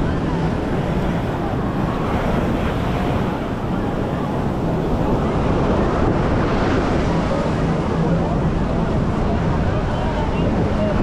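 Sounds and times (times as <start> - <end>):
crowd voices: 0.0 - 11.0
surf washing onto beach: 0.0 - 11.0
wind buffeting microphone: 0.0 - 11.0.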